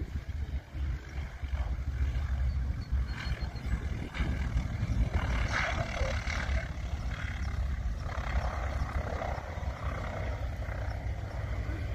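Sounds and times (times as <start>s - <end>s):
aircraft radial engines rumbling: 0.0s - 11.9s.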